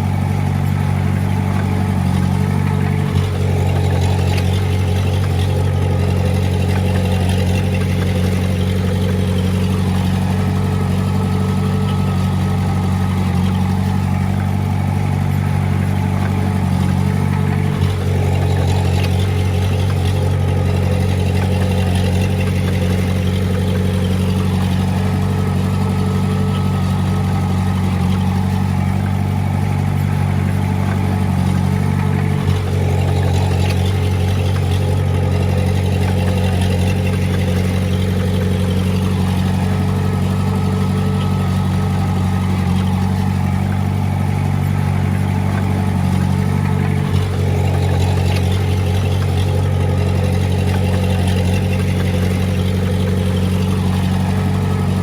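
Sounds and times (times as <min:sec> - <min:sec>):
bulldozer diesel engine running: 0:00.0 - 0:55.0
light engine knock: 0:00.0 - 0:55.0.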